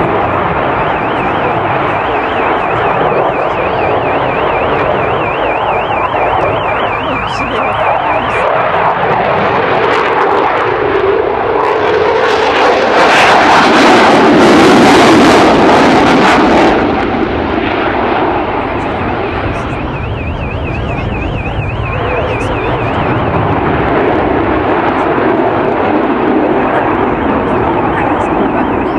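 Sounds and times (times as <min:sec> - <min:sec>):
high warbling alarm tone: 0:00.0 - 0:28.9
jet engine roar: 0:00.0 - 0:28.9.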